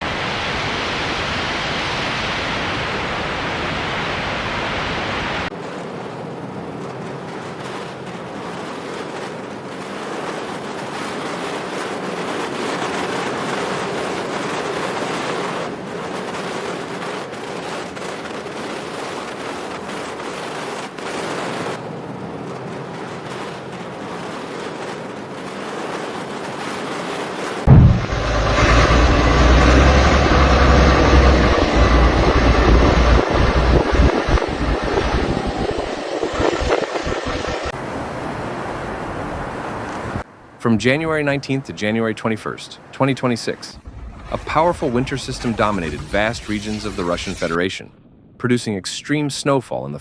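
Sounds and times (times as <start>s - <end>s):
blizzard wind blowing: 0.0s - 48.6s.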